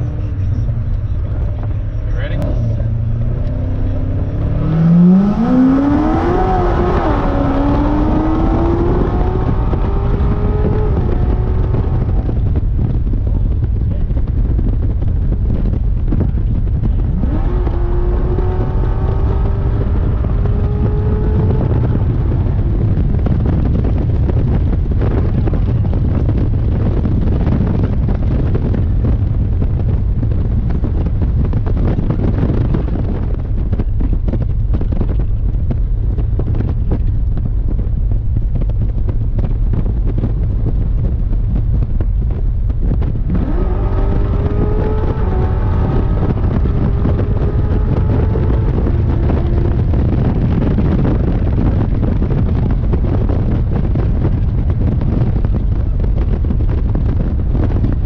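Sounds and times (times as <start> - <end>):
car engine accelerating hard: 0.0 - 58.0
road and wind noise: 0.0 - 58.0.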